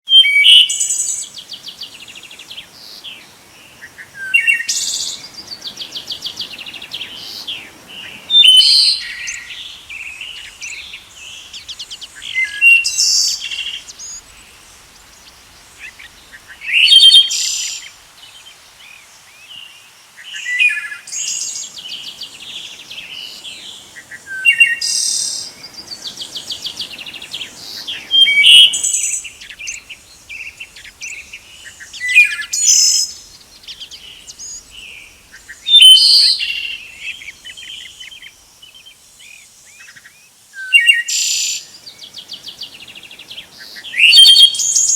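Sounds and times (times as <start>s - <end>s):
songbird trilled song: 0.1s - 44.9s
soft bird chirps: 0.2s - 44.9s.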